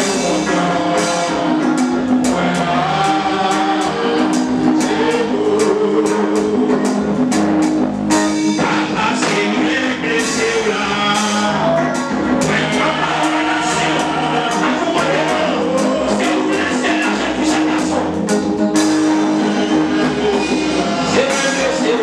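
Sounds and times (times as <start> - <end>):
man singing into microphone: 0.0 - 7.0, 8.5 - 18.2, 20.2 - 22.0
band with drums: 0.0 - 22.0.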